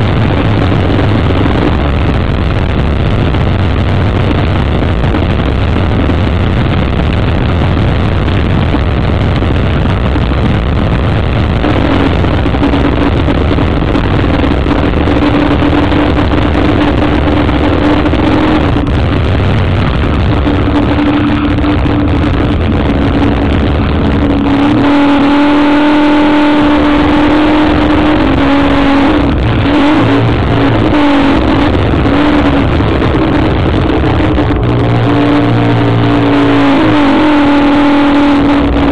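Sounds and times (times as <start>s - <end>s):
loud rushing noise: 0.0s - 38.9s
powerboat engines running hard: 0.0s - 38.9s.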